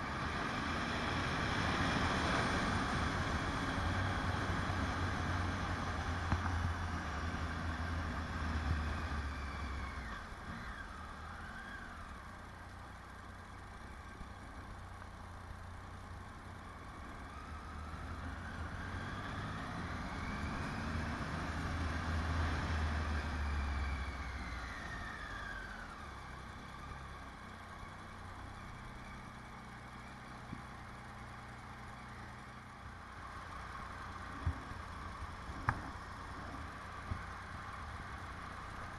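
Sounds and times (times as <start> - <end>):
motorcycle engine running: 0.0 - 19.1, 24.1 - 38.9
road and wind noise: 0.0 - 38.9.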